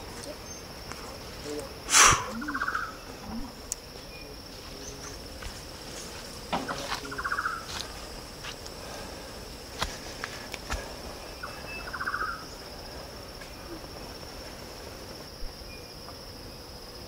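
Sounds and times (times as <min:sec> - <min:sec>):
rainforest birdsong: 0:00.0 - 0:16.7
high insect drone: 0:00.0 - 0:17.0.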